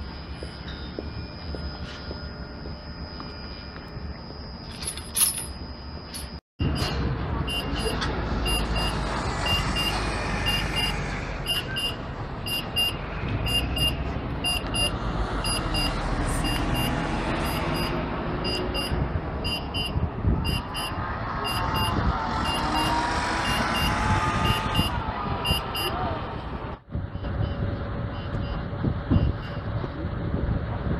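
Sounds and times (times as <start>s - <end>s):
buses driving past: 0.0s - 5.0s, 5.6s - 30.9s
crossing signal beeps: 0.0s - 26.2s, 27.1s - 29.7s
bus drive whine: 0.0s - 30.9s.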